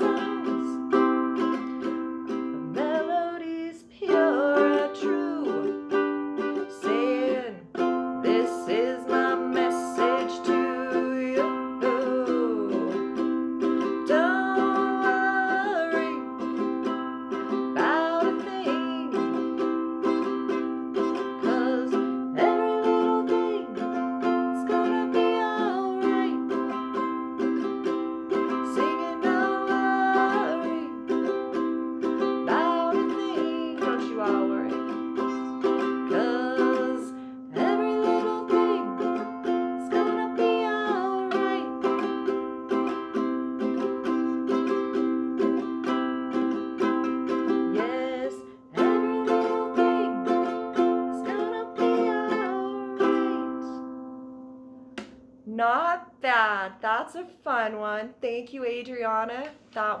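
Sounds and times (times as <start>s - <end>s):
person singing wordlessly: 0.0s - 53.9s
strummed ukulele chords: 0.0s - 55.6s.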